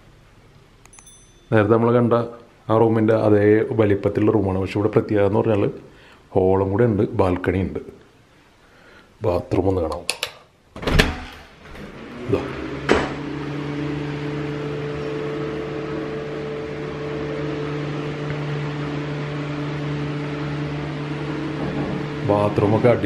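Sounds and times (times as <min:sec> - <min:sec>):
low electric hum: 0:00.0 - 0:23.0.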